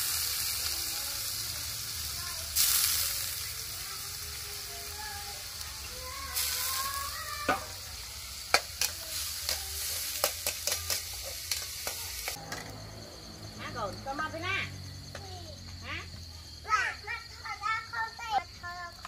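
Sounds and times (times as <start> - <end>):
food sizzling in a wok: 0.0 - 15.9.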